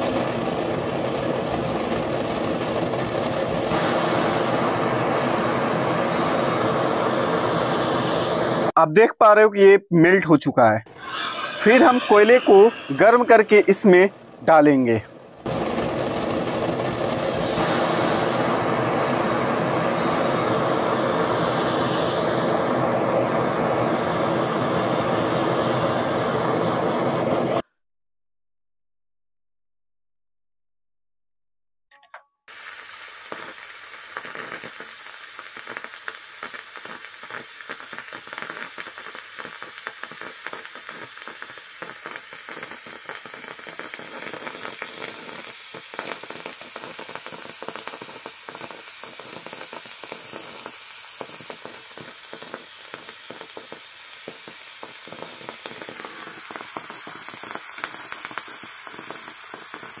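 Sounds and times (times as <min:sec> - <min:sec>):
hissing crackling sizzle: 0:00.0 - 0:09.4, 0:10.3 - 0:27.6, 0:32.5 - 1:00.0.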